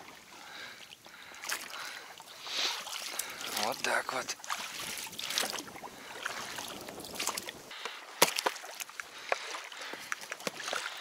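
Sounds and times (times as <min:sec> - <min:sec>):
water rushing around boat: 0:00.0 - 0:11.0.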